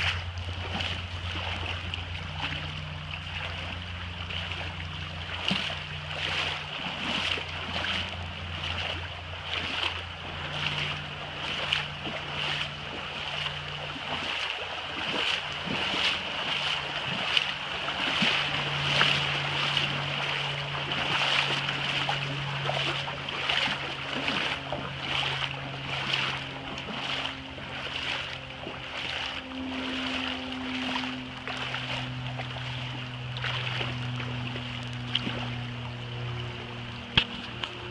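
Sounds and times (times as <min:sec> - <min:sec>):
faint low hum: 0:00.0 - 0:37.9
footsteps sloshing through water: 0:00.0 - 0:37.9.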